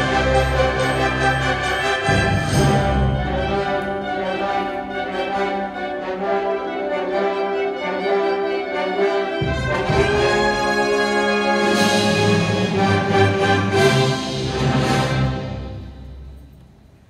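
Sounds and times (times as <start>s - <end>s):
brass holding sustained chords: 0.0s - 16.4s
tubas: 0.0s - 16.4s
woodwinds holding sustained chords: 0.0s - 16.6s.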